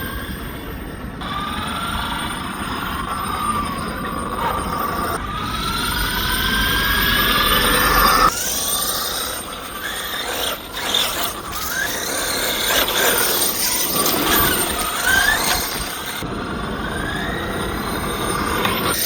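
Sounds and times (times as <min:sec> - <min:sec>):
rc car motor whining: 0:00.0 - 0:19.0.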